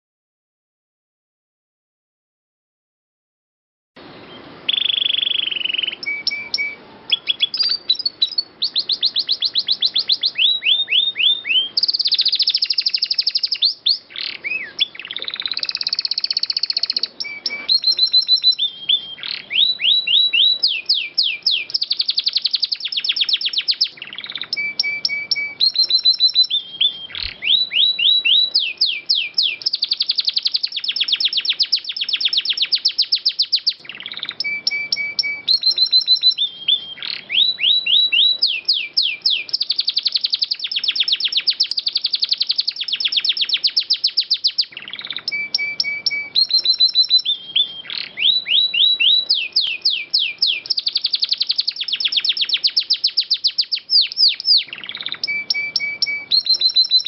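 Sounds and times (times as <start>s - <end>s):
canary singing trills: 4.0s - 57.0s.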